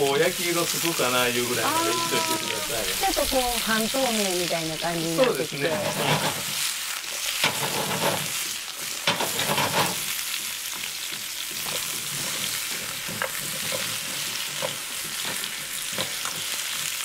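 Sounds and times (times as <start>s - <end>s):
potatoes sizzling in a frying pan: 0.0s - 17.0s.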